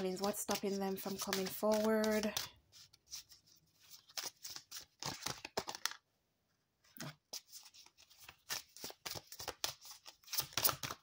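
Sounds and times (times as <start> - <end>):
cards being shuffled: 0.0 - 6.0, 7.3 - 11.0.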